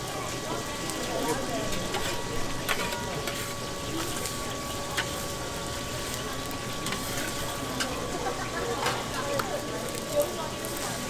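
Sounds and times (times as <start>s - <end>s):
egg sizzling on a griddle: 0.0s - 11.0s.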